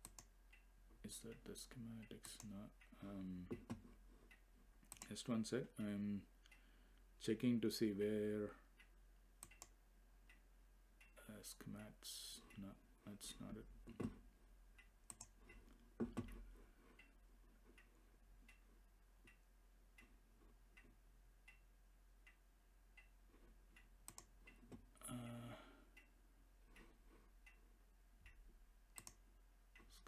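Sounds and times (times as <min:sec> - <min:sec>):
faint ticking: 0:00.0 - 0:30.0.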